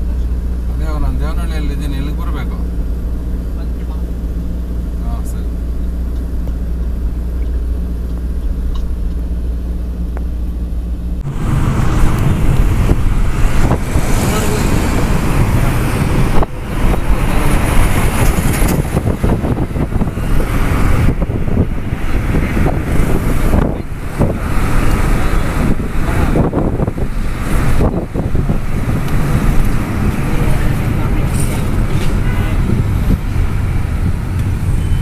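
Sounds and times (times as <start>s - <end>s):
passing traffic: 0.0s - 35.0s
road and wind noise in vehicle: 0.0s - 35.0s.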